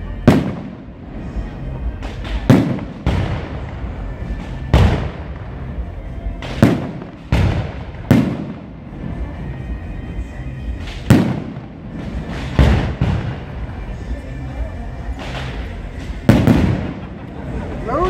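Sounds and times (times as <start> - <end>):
fireworks bursting with echo: 0.0 - 18.0.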